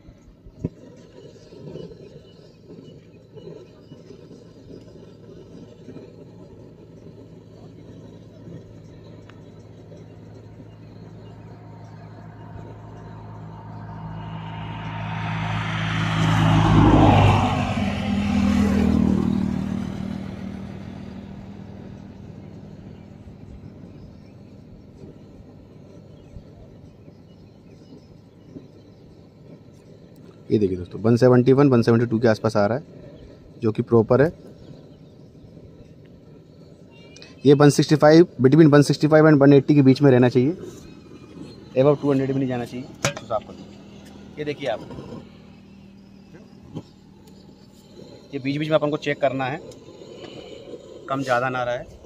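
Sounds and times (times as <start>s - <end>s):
motor vehicle passing by: 0.0s - 52.0s
steady low engine hum: 0.0s - 52.0s.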